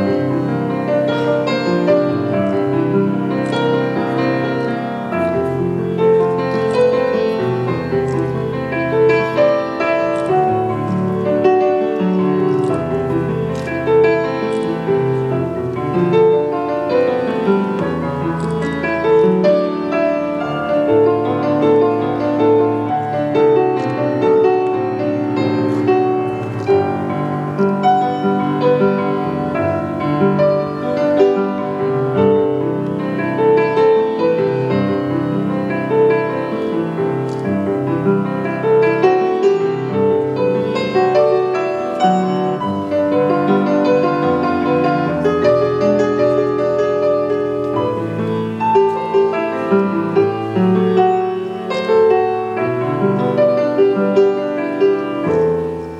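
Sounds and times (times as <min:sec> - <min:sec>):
piano music: 0:00.0 - 0:55.9.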